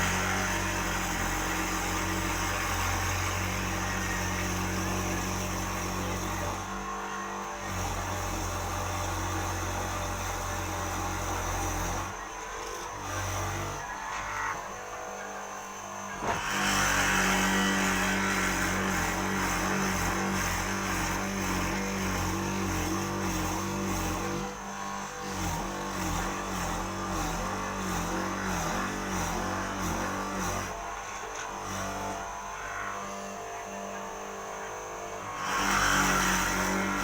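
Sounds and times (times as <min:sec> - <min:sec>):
electric motor running: 0:00.0 - 0:37.0.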